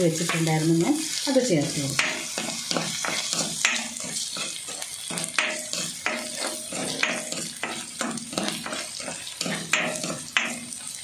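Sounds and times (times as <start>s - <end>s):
food sizzling in hot oil: 0.0s - 11.0s
spatula scraping a wok: 0.0s - 11.0s.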